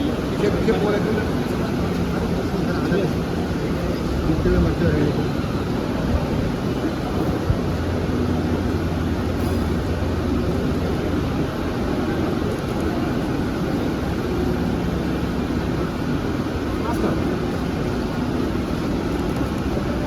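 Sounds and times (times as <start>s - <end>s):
traffic rumble: 0.0s - 20.0s
vehicle engine hum: 0.0s - 20.0s.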